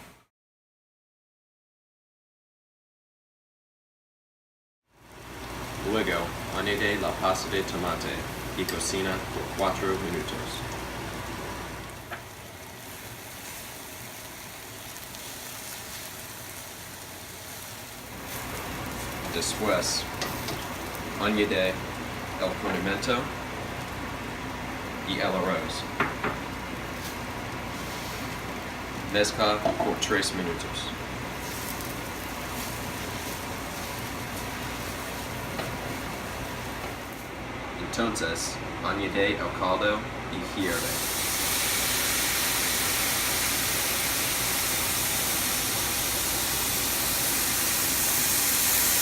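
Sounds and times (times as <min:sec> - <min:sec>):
vegetables sizzling in a frying pan: 0:05.0 - 0:37.5, 0:40.6 - 0:49.0.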